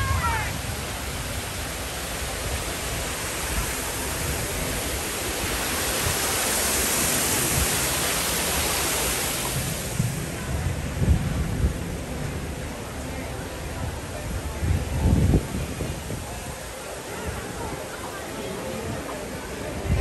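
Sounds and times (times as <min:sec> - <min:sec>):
fountain water splashing into pool: 0:00.0 - 0:20.0.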